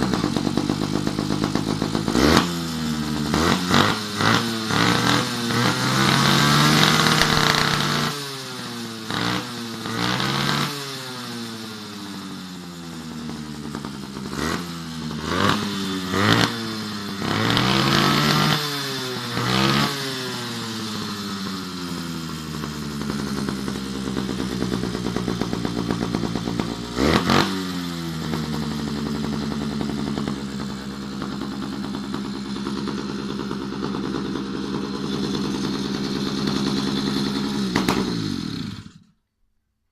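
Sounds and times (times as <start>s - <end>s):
small engine revving and idling: 0.0s - 39.2s.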